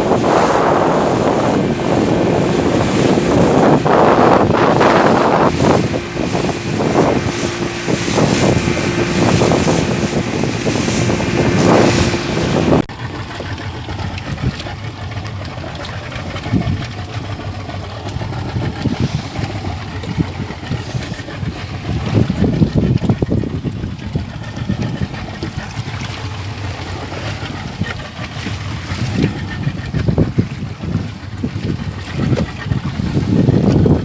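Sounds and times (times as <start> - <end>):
motorboat engine running: 0.0 - 34.0
water noise: 0.0 - 34.0
wind on microphone: 0.0 - 34.0.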